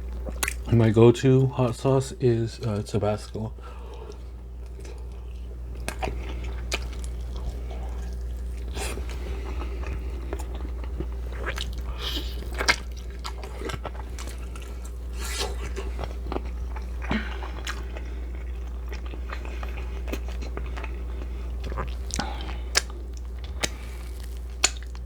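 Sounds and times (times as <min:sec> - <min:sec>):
person chewing food: 0:00.0 - 0:00.7, 0:02.6 - 0:25.0.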